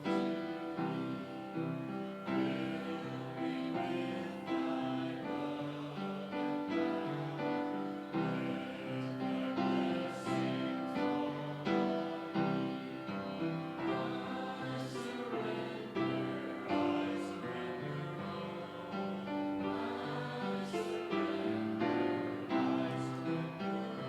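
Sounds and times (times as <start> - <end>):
group singing a hymn: 0.0 - 24.0
piano accompaniment: 0.0 - 24.0.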